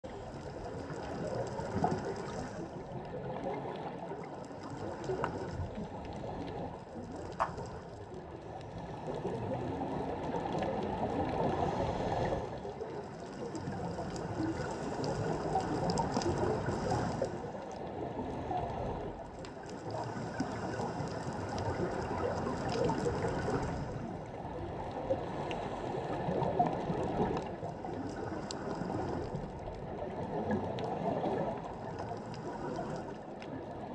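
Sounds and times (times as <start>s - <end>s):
muffled underwater rumble: 0.0s - 33.9s.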